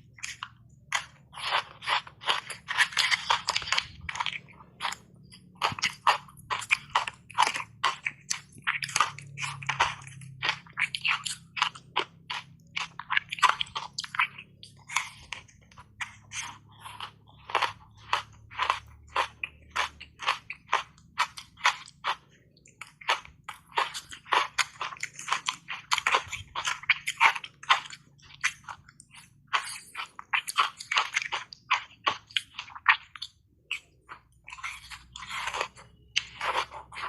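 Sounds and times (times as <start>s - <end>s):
ice crunching when chewed: 0.0s - 37.0s.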